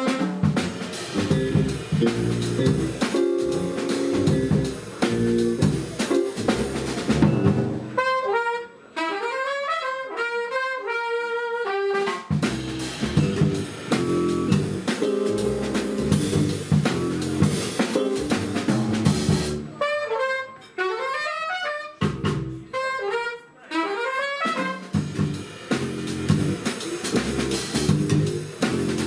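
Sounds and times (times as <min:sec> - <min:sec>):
jazz band playing: 0:00.0 - 0:29.0.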